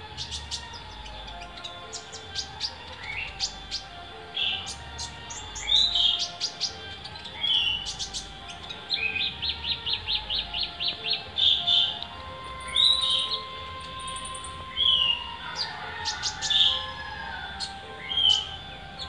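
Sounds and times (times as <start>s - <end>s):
bird singing chips and whistles: 0.2s - 19.0s.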